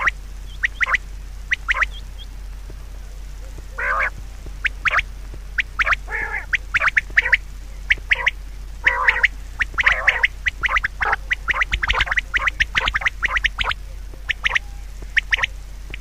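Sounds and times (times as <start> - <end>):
bird calls: 0.0 - 16.0
steady low hum: 0.0 - 16.0.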